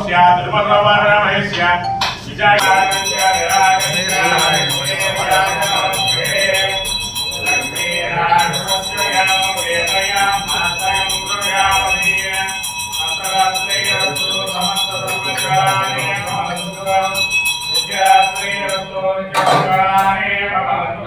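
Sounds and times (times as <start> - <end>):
man chanting: 0.0 - 21.0
hand bell ringing rapidly: 1.8 - 20.2.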